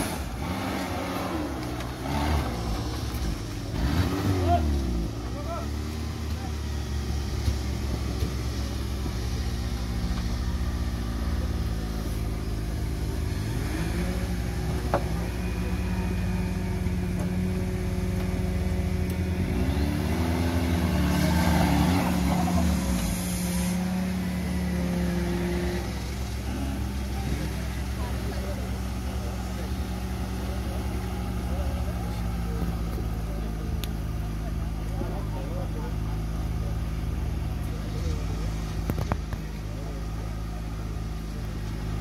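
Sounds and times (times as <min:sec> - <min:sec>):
vehicle engine running and revving: 0:00.0 - 0:42.0.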